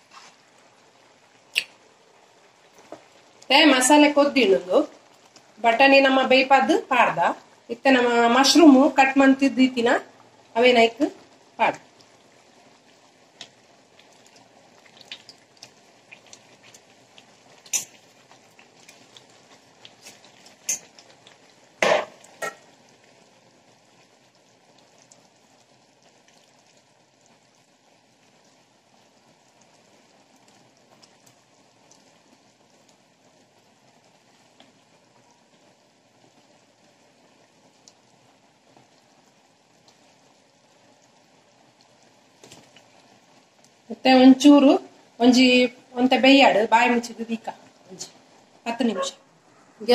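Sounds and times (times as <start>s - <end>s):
gravy bubbling: 0.0s - 49.9s.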